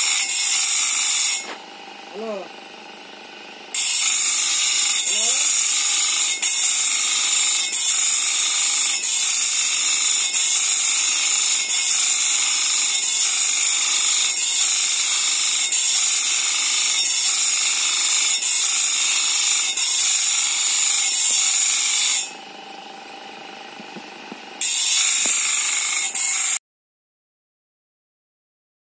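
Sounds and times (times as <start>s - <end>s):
grinding wheel sharpening saw blade: 0.0s - 1.6s, 3.7s - 26.6s.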